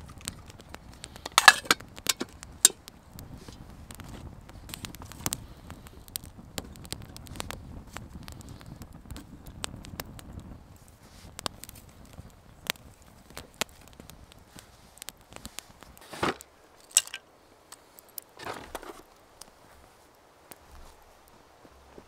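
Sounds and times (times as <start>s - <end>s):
campfire crackling and popping: 0.0s - 22.0s
low rumble of flame: 0.0s - 22.0s.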